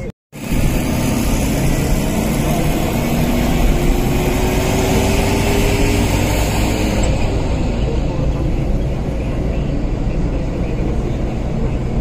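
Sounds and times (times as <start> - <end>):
car engine hum: 0.0 - 12.0
car road noise: 0.0 - 12.0.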